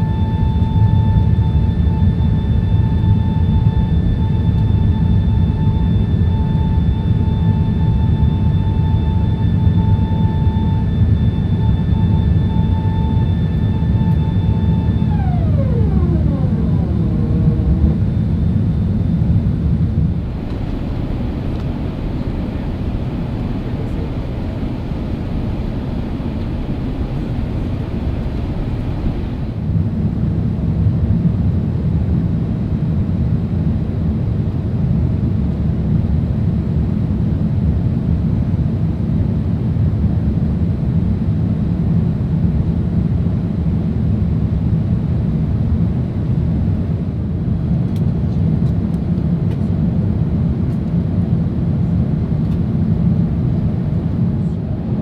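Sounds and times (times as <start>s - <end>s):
airplane cabin rumble in flight: 0.0s - 55.0s.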